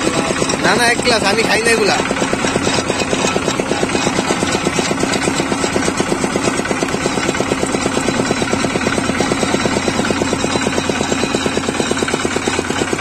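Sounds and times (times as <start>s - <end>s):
sugarcane crusher clattering: 0.0s - 13.0s.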